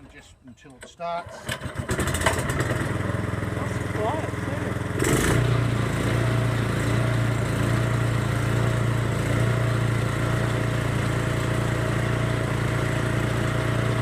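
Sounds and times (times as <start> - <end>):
chipper shredder engine running: 1.2 - 14.0.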